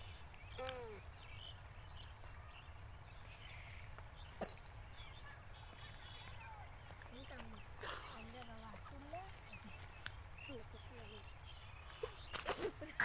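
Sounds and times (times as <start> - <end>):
small bird chirps: 0.0 - 12.8.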